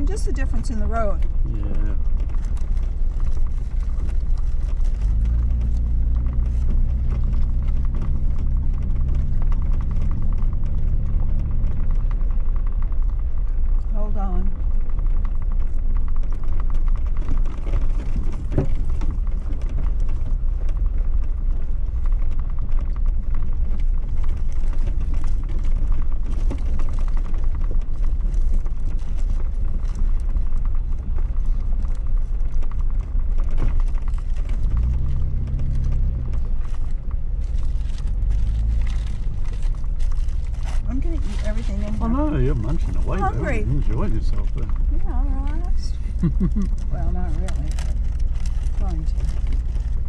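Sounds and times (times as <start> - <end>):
low engine and tyre rumble: 0.0 - 50.0
vehicle body rattling: 0.0 - 50.0.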